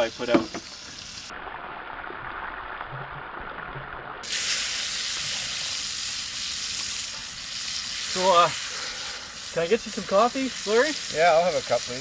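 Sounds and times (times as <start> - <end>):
food sizzling in a frying pan: 0.0 - 3.1, 4.2 - 12.0.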